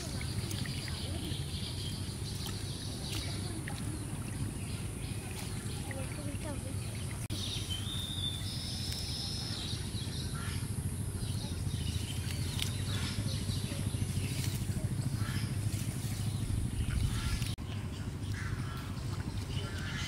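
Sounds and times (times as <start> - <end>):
birds whistling and chirping: 0.0 - 20.0
steady low rumble: 0.0 - 20.0.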